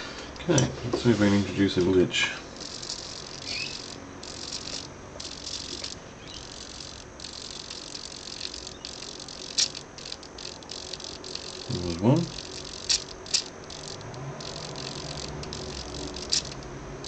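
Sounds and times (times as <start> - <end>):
servos buzzing and jittering: 0.0 - 17.0.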